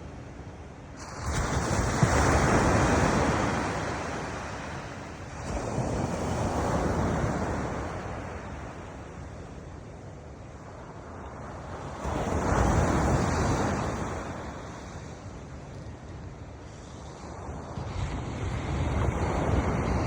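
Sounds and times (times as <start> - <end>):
waves breaking on shore: 0.2 - 20.0.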